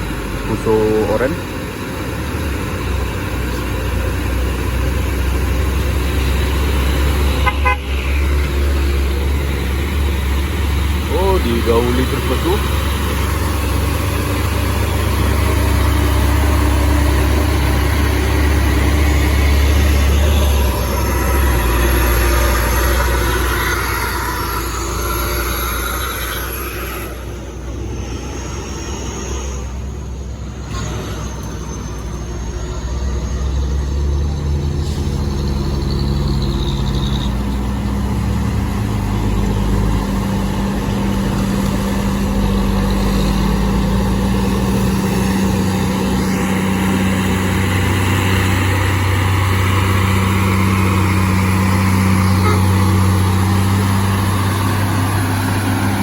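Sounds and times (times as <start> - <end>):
diesel truck engine labouring: 0.0 - 56.0.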